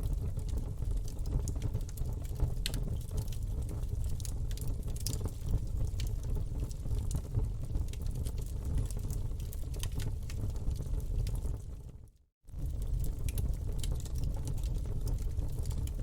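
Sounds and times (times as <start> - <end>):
campfire crackling and popping: 0.0 - 11.7, 12.5 - 16.0.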